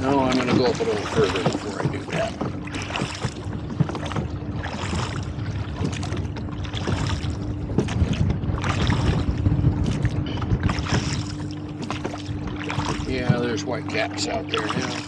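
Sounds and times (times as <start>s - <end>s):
oars splashing water: 0.0s - 15.0s
wind rumble on microphone: 0.0s - 15.0s.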